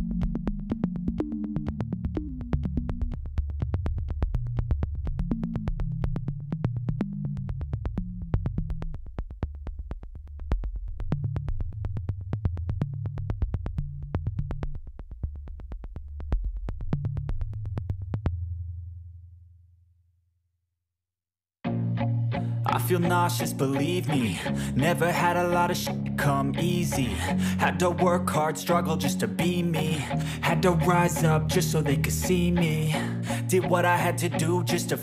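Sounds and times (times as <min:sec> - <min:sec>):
synthesizer bass line: 0:00.0 - 0:18.3, 0:21.7 - 0:35.0
ticking electronic beat: 0:00.0 - 0:18.3, 0:22.6 - 0:35.0.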